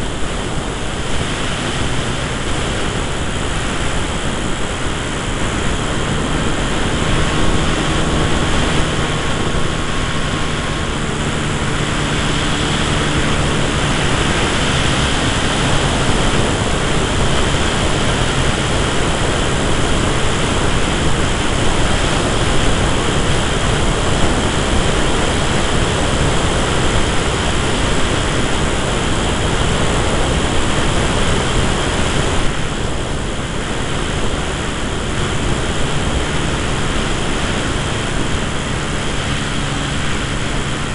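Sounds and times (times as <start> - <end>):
electric motor and propeller: 0.0 - 40.9
wind noise on microphone: 0.0 - 40.9.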